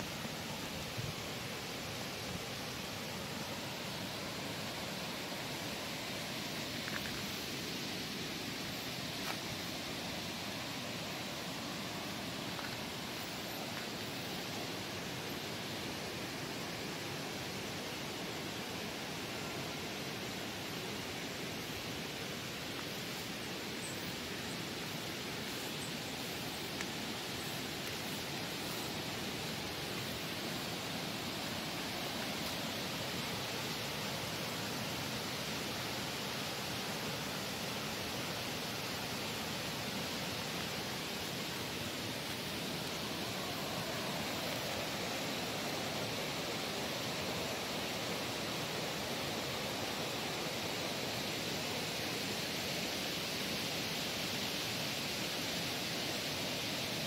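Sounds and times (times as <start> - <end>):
steady rushing hiss: 0.0 - 57.0.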